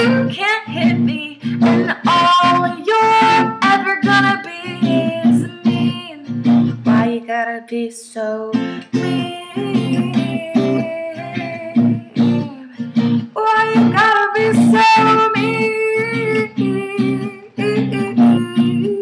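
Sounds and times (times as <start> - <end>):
acoustic guitar strumming: 0.0 - 7.3, 8.5 - 19.0
woman singing: 0.0 - 19.0.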